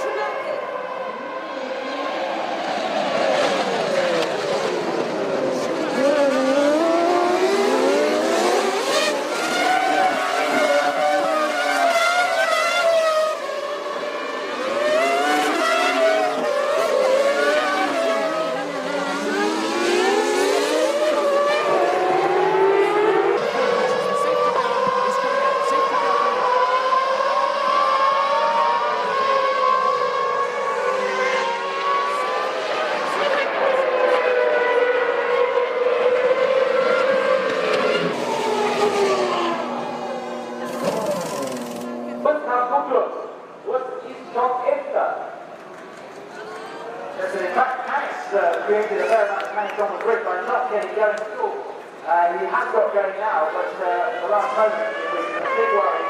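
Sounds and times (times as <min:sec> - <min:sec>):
racing car engines at high revs: 0:00.0 - 0:43.8, 0:47.2 - 0:56.0.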